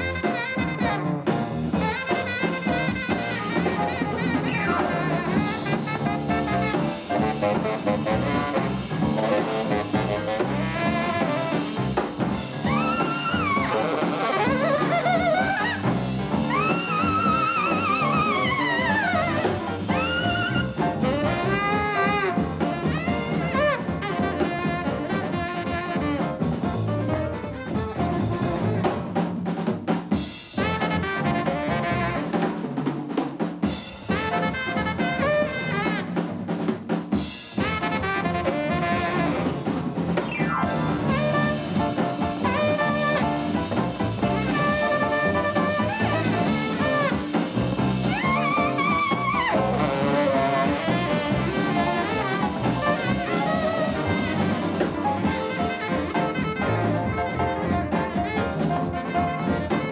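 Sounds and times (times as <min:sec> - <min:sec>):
tenor saxophone melody: 0:00.0 - 0:29.0, 0:30.6 - 0:32.5, 0:34.1 - 0:36.3, 0:37.5 - 0:59.9
bass: 0:00.0 - 0:59.9
drum kit: 0:00.0 - 0:59.9
piano: 0:00.0 - 0:59.9.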